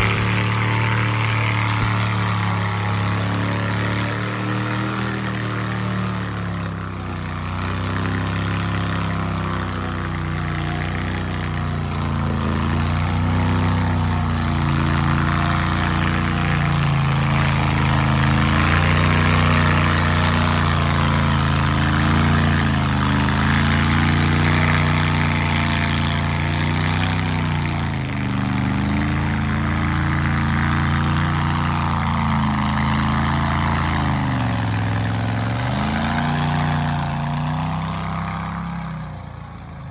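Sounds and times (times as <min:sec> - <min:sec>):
truck engine revving under load: 0:00.0 - 0:39.9.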